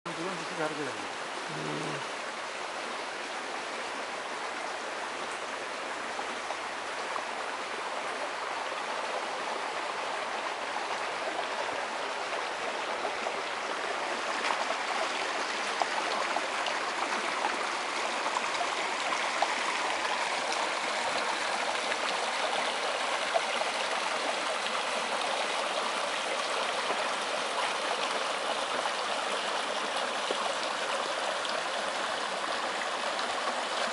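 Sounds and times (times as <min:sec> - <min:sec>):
water rushing along a canal: 0:00.1 - 0:33.9.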